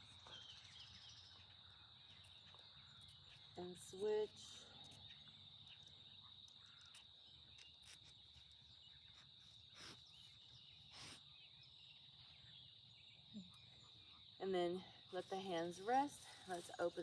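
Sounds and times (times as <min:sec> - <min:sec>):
faint bird chirps: 0:00.0 - 0:15.2.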